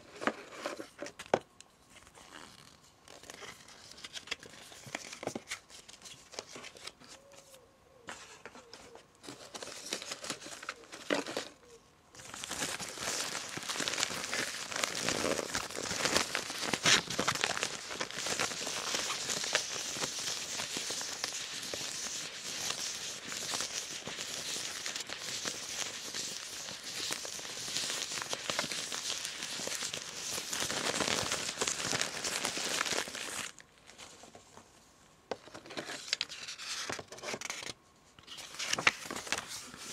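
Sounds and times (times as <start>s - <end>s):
paper packaging crinkling: 1.9s - 34.6s, 35.4s - 39.9s.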